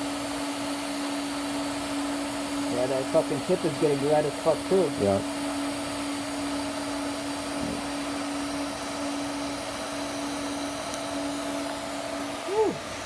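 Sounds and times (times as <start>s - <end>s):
welding arc buzzing hiss: 0.0s - 13.0s.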